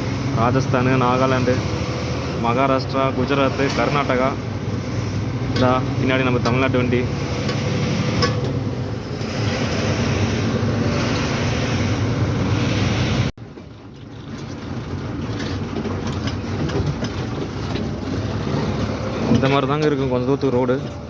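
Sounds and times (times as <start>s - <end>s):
lorry engine: 0.0s - 21.0s
tyres on rough road: 0.0s - 21.0s.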